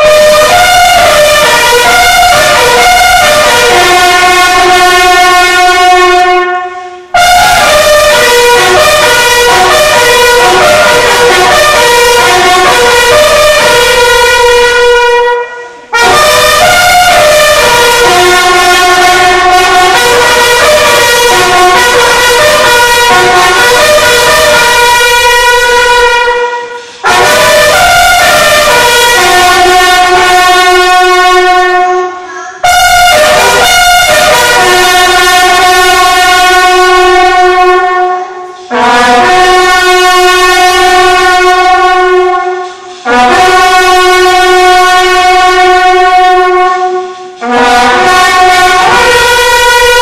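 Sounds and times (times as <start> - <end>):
bugles playing in unison: 0.0 - 50.0.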